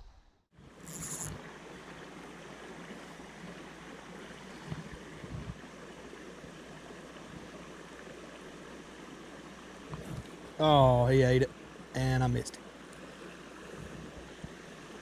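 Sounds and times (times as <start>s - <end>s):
creek water running: 0.6s - 15.0s.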